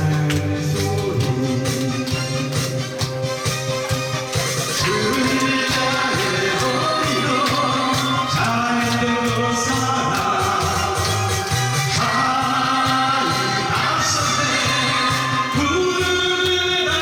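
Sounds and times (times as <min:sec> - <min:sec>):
person singing: 0:00.0 - 0:02.9, 0:04.4 - 0:17.0
steady drum beat: 0:00.0 - 0:17.0.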